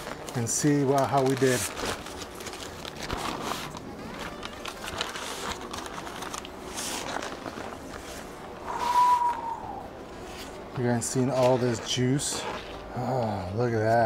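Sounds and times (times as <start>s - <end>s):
paper crinkling: 0.0s - 8.9s, 10.1s - 14.0s.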